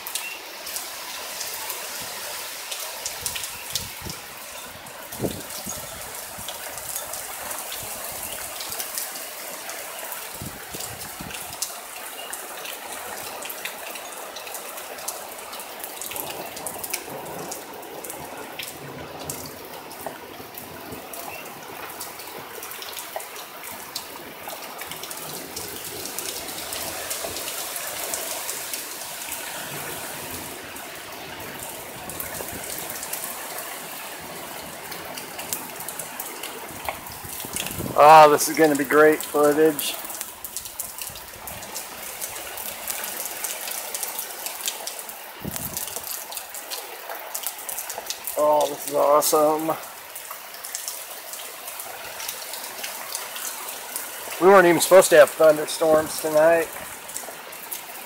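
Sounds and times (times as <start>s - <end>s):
close rain drop splashes: 0.0s - 58.0s
heavy rain pouring: 0.0s - 58.0s.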